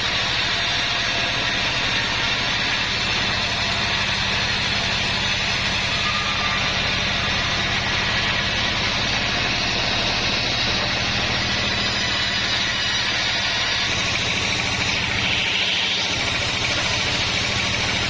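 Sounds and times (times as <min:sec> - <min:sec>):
saw hiss and squeal: 0:00.0 - 0:18.0
sawmill engine drone: 0:00.0 - 0:18.0.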